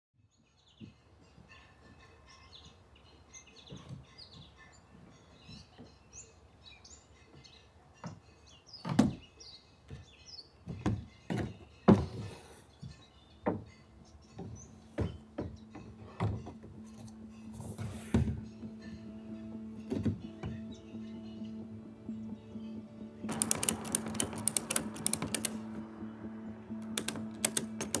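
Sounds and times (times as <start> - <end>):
songbirds chirping: 0.2 - 28.0.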